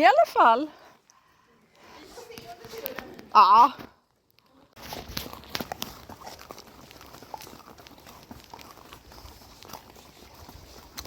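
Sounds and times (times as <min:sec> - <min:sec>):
horse hooves walking: 0:00.0 - 0:11.0.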